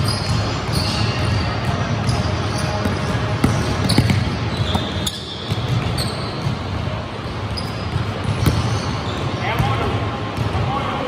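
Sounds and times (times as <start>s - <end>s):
basketball bouncing on court floor: 0.0s - 10.8s.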